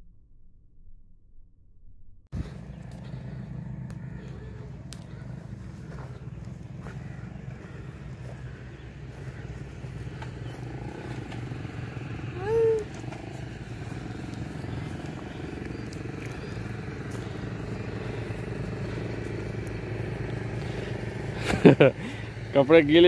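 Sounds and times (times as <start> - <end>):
engine running: 2.3 - 23.0
rising and falling call: 2.4 - 22.5.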